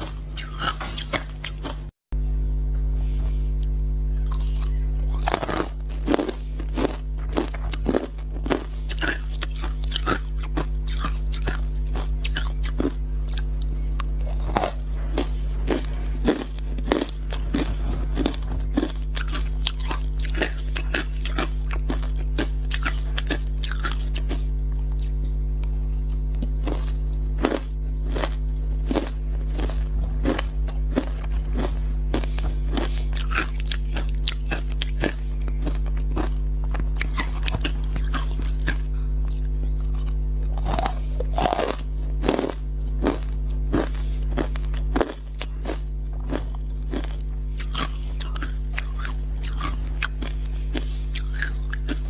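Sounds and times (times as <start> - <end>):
crushed ice crunching: 5.1 - 13.0, 14.3 - 24.4, 26.6 - 52.0.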